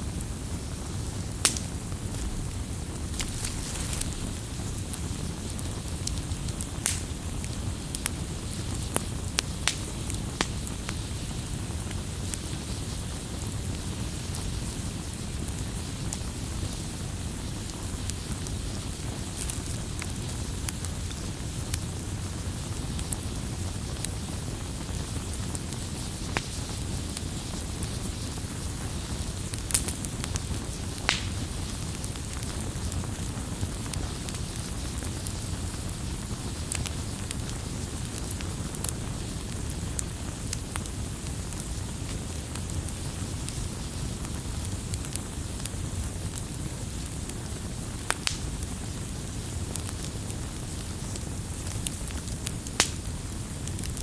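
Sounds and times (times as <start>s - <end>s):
low rumble of flame: 0.0s - 54.0s
wood crackling and popping: 0.1s - 54.0s.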